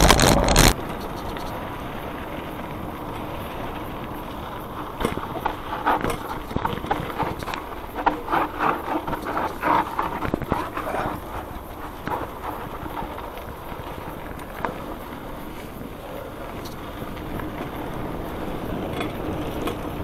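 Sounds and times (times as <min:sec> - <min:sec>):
bike rattling over bumps: 0:00.0 - 0:20.0
bike rolling on dirt: 0:00.0 - 0:20.0.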